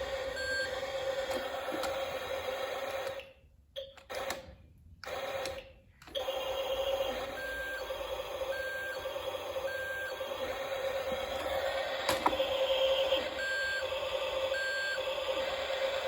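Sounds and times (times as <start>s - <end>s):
toy truck electric hum: 0.0s - 3.4s, 4.0s - 16.0s.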